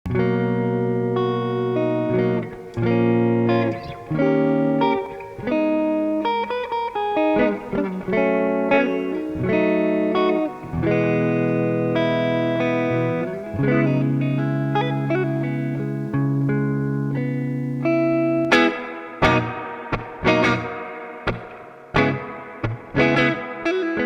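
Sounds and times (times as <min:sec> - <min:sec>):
electric guitar playing chords: 0:00.1 - 0:24.0.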